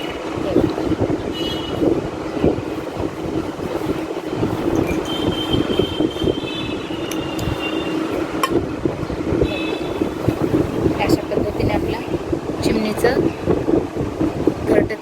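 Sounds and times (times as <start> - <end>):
low rumbling hum: 0.0 - 14.8.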